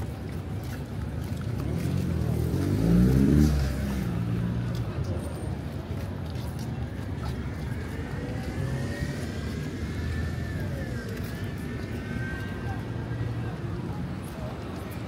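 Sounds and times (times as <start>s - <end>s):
vehicle engine passing by: 1.3s - 5.9s, 6.9s - 15.0s.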